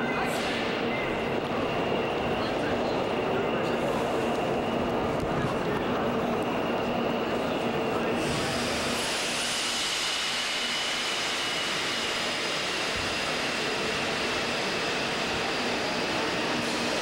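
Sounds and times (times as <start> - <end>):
high-speed train rushing: 0.0 - 17.0.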